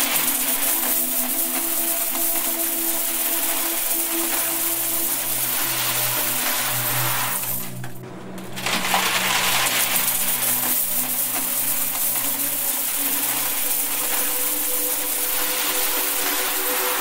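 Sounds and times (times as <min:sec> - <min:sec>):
coins pouring into metal box: 0:00.0 - 0:07.8, 0:08.5 - 0:17.0.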